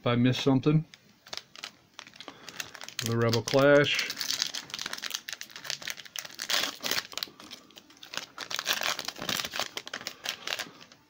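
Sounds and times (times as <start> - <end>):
foil wrapper crinkling: 1.2 - 11.0.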